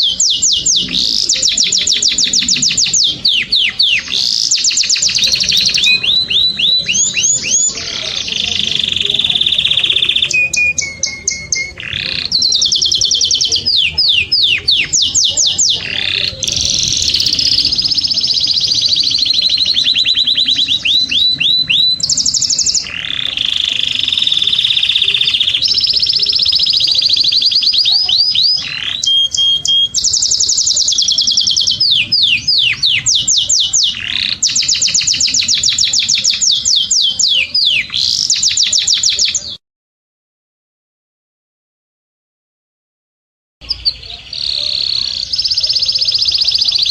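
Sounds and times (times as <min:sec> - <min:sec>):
canary singing trills: 0:00.0 - 0:39.6, 0:43.6 - 0:46.9.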